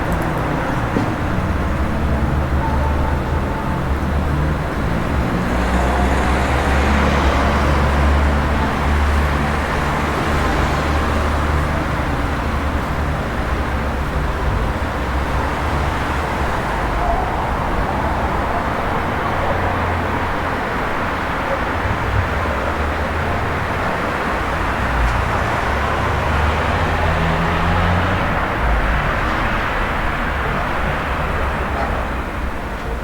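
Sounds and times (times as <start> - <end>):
traffic engine hum: 0.0 - 33.0
vehicle passing close by: 3.7 - 32.5.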